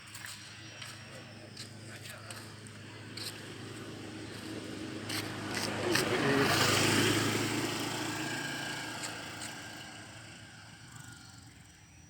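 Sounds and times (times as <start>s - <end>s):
vehicle engine passing: 0.1s - 12.0s.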